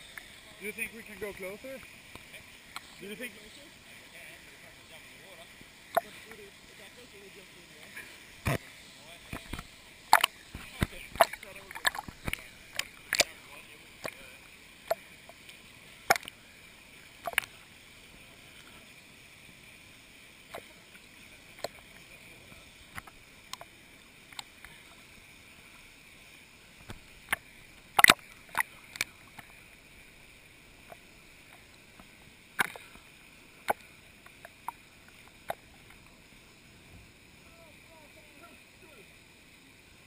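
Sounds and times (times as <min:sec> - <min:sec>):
small waves lapping and splashing: 0:00.0 - 0:39.7
faint steady hiss: 0:00.0 - 0:40.0.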